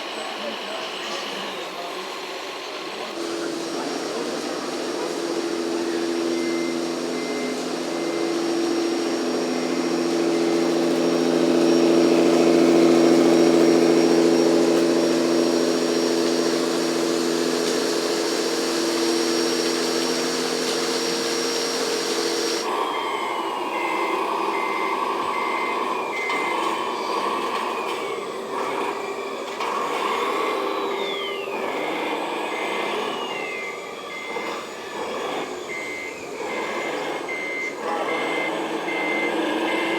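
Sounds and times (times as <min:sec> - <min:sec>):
whining motor: 0:00.0 - 0:39.9
reversing beeper: 0:02.9 - 0:39.9.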